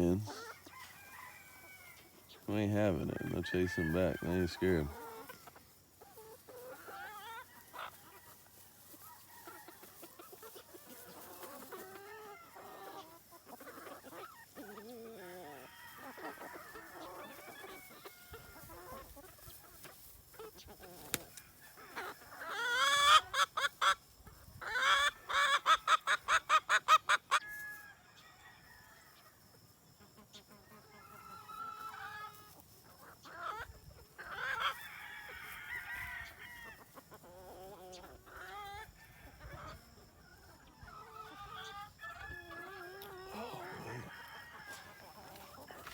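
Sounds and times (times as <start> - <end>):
chickens clucking softly: 0.0 - 45.9.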